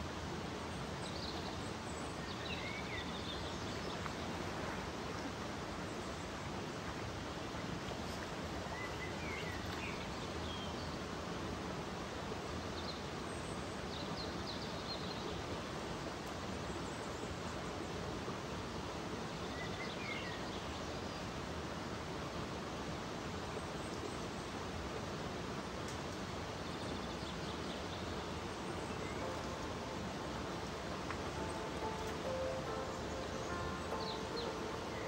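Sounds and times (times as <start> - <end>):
stream running over rocks: 0.0 - 35.0.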